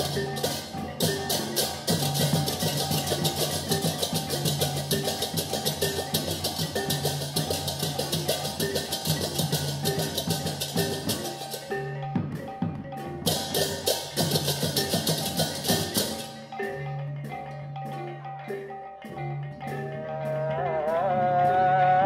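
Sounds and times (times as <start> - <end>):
rapid clashing cymbals: 0.0 - 18.1
metallophones playing melodic notes: 0.0 - 22.0.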